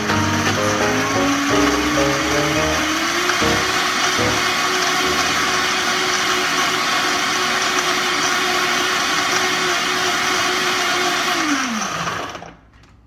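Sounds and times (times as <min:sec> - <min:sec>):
blender whirring: 0:00.0 - 0:12.6.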